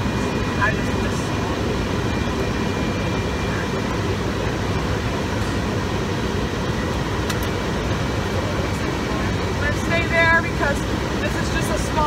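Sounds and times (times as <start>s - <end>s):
truck diesel engine and road rumble: 0.0s - 12.0s.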